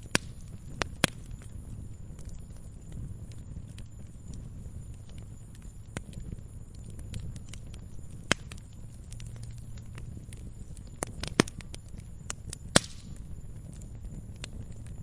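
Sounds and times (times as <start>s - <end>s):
low rumble of burning: 0.0s - 15.0s
sharp pops of fire: 0.0s - 15.0s
wood fire crackling: 0.0s - 15.0s.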